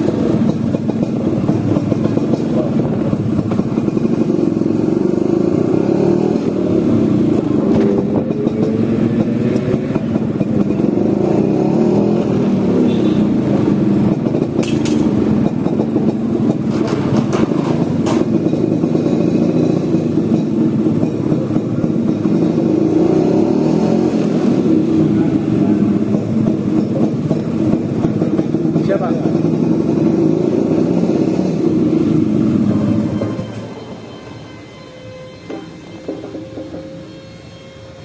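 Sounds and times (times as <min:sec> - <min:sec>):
scooter engine running: 0:00.0 - 0:34.1.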